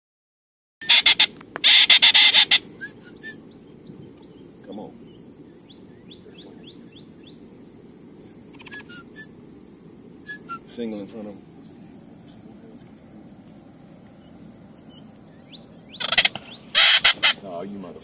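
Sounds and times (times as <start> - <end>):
small birds chirping: 0.8 - 18.0.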